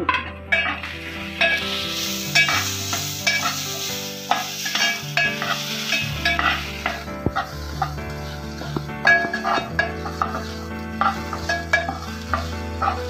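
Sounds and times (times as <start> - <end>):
spatula scraping a metal pot: 0.5 - 3.7, 4.3 - 13.0
light frying sizzle: 0.5 - 13.0.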